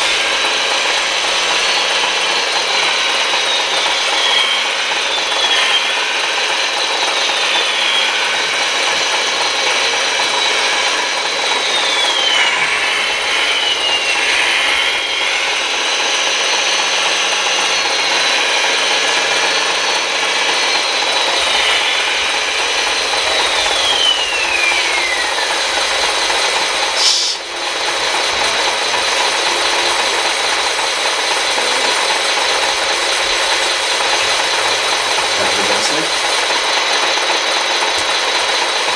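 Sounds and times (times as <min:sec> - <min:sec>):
electric motors whirring: 0:00.0 - 0:38.9
falling motor whines: 0:00.0 - 0:38.9.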